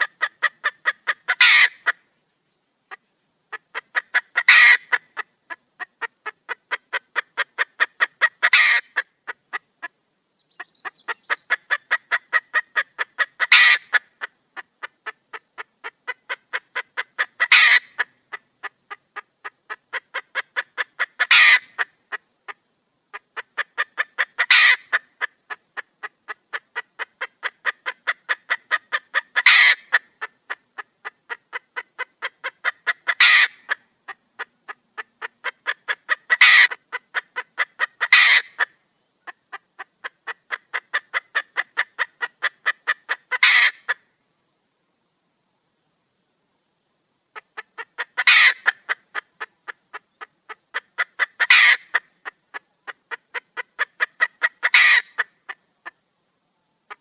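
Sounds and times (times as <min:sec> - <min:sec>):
hen clucking and calling: 0:00.0 - 0:02.2, 0:02.9 - 0:44.2, 0:47.3 - 0:57.0.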